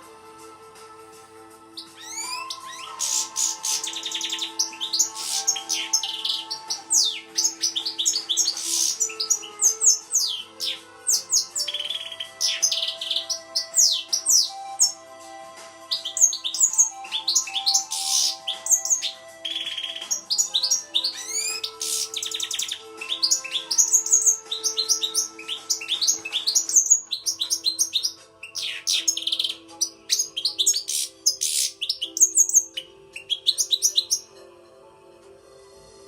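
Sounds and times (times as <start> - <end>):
goldfinch singing: 1.8 - 34.4.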